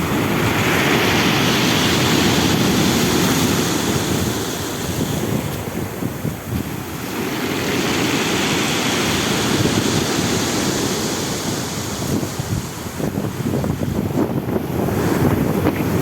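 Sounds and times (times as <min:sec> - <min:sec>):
stormy sea surf: 0:00.0 - 0:16.0
wind buffeting microphone: 0:00.0 - 0:16.0.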